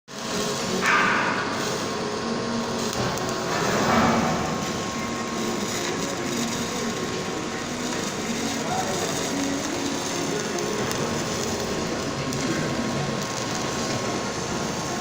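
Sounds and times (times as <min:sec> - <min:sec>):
welding arc crackling: 0:00.1 - 0:15.0.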